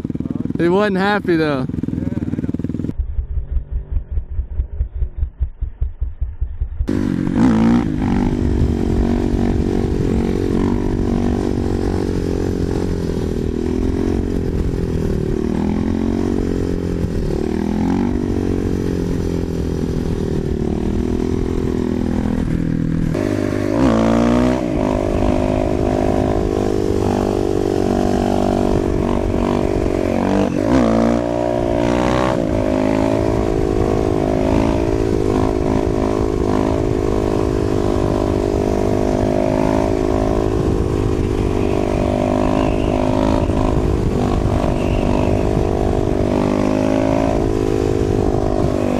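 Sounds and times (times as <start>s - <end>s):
dirt bike engine revving: 0.0s - 48.9s
wind noise on microphone: 2.7s - 48.9s.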